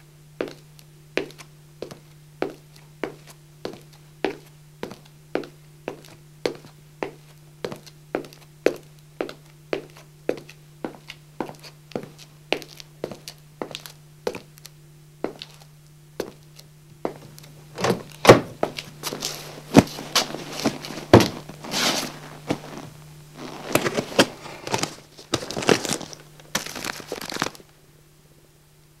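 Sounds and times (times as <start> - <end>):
steady low hum: 0.0 - 29.0
shoe footsteps: 1.2 - 14.5, 15.2 - 27.5.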